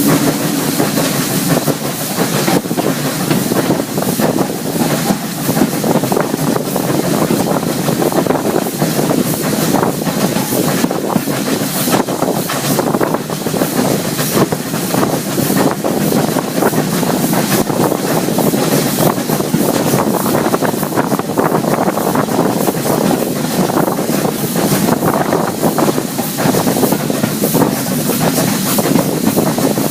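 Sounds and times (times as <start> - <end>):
train wheels rumbling on track: 0.0 - 29.9
wind buffeting microphone: 0.0 - 29.9.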